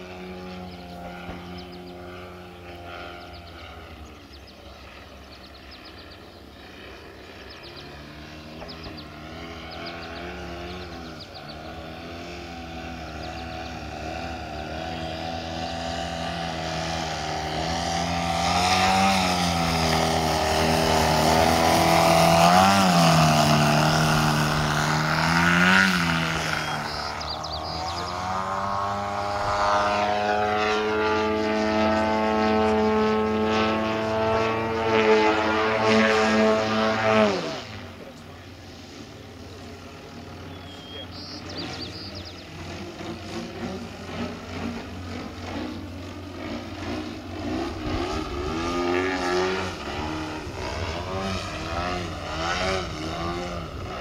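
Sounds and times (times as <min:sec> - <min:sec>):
model plane engine and propeller: 0:00.0 - 0:54.0.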